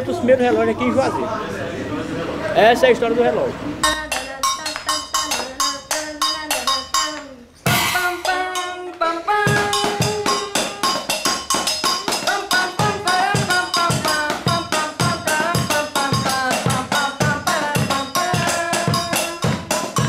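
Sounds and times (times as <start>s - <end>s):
music with quick steady beat: 3.8s - 20.0s.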